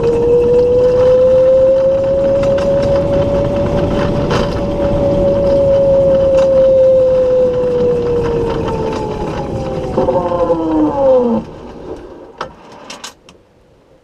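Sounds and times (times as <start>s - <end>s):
electric motor whining: 0.0s - 11.7s
road noise: 0.0s - 14.0s.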